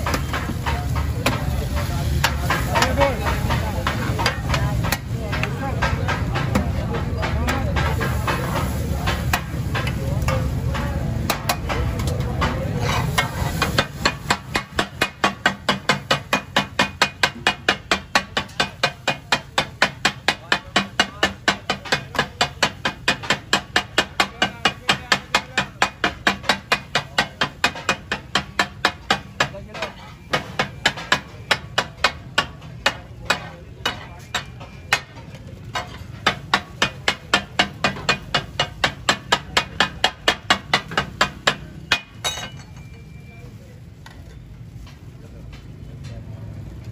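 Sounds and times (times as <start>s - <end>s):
metal spatula chopping on griddle: 0.0s - 42.8s.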